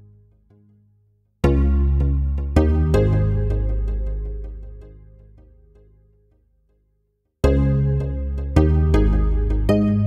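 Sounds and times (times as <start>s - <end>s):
instrumental background music: 0.0s - 6.6s, 7.4s - 10.0s.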